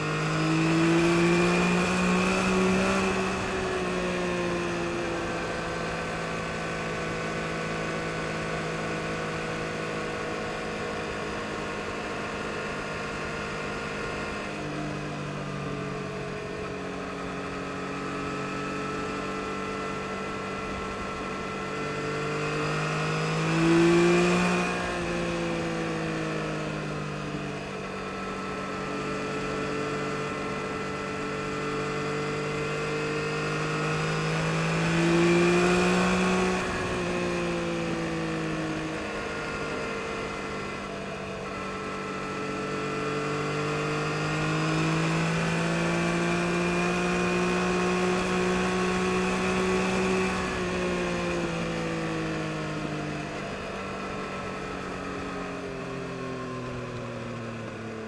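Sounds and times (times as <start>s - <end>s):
motorcycle engine revving: 0.0s - 55.8s.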